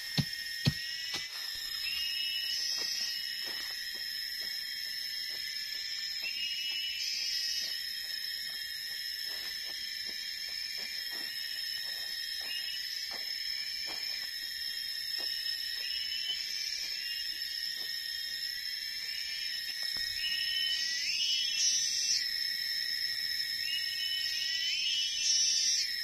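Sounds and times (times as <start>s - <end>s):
insect trills: 0.0s - 26.0s
insects droning: 0.0s - 26.0s.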